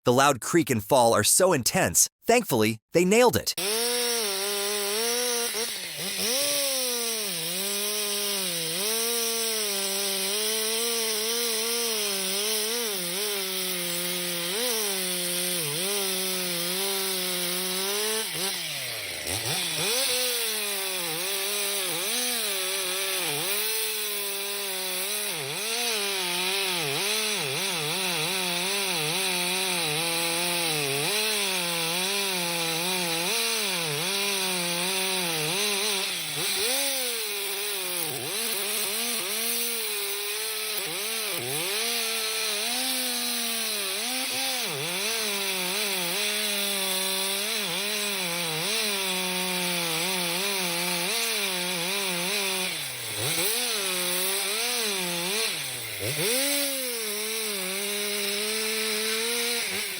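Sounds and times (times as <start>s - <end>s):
chainsaw cutting: 2.6s - 59.9s.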